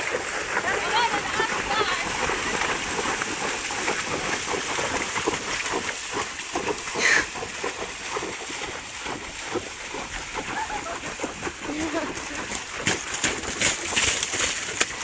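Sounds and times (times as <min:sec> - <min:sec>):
horse hooves splashing through water: 0:00.0 - 0:15.0.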